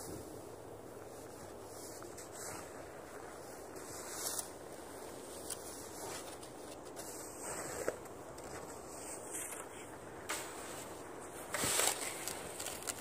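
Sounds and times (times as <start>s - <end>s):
wind hiss: 0.0s - 13.0s
snow shovel scooping snow: 1.1s - 13.0s.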